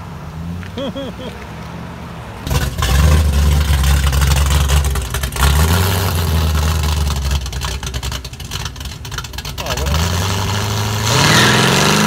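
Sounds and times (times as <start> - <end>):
car engine revving: 1.8 - 12.0.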